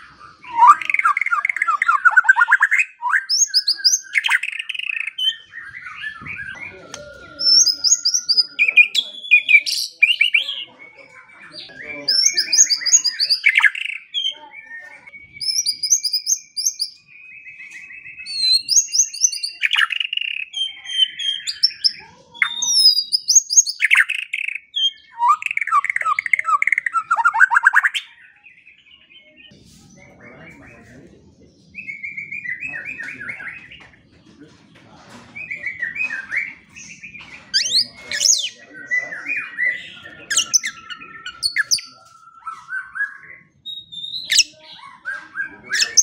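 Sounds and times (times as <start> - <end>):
bird singing: 0.0 - 46.0.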